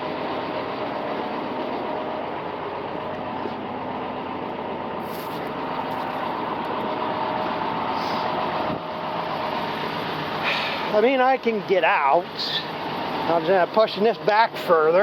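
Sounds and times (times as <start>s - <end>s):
farm machine engine running: 0.0s - 15.0s.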